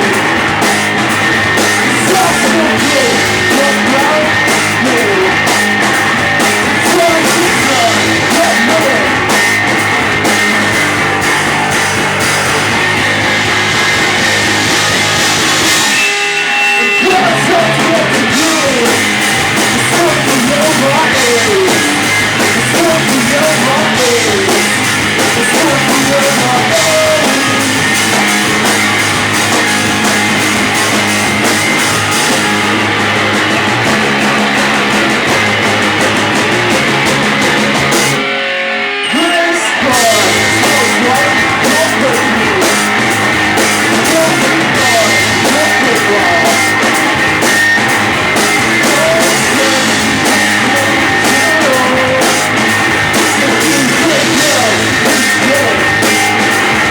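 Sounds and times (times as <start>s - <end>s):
loud rock music: 0.0s - 56.9s.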